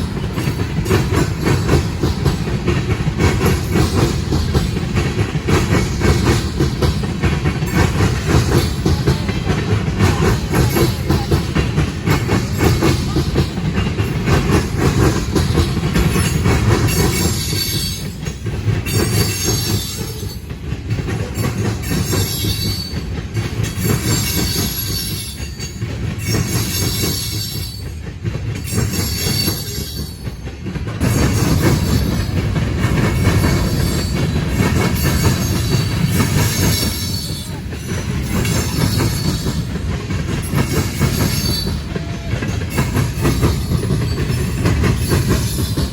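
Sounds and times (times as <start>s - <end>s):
train wheels clattering over rails: 0.0s - 45.9s.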